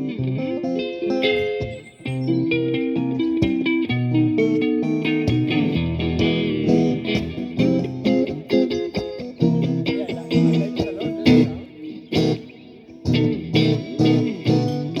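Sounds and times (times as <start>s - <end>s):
bass guitar: 0.0s - 15.0s
electric guitar: 0.0s - 15.0s.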